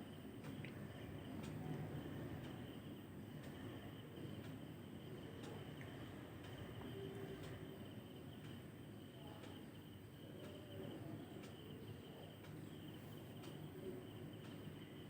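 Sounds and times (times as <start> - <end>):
low background hiss: 0.0 - 15.0.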